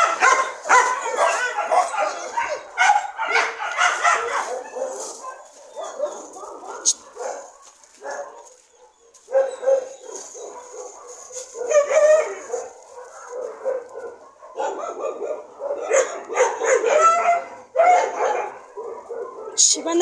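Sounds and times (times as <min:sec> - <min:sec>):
dog howling: 0:00.0 - 0:08.4, 0:09.3 - 0:19.7.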